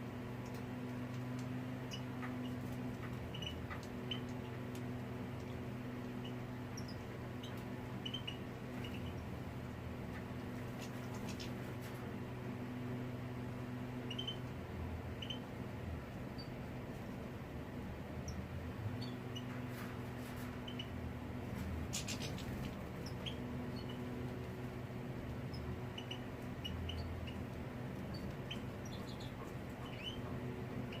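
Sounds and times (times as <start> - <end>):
steady low hum: 0.0 - 31.0
small birds chirping: 0.1 - 17.2, 18.2 - 31.0.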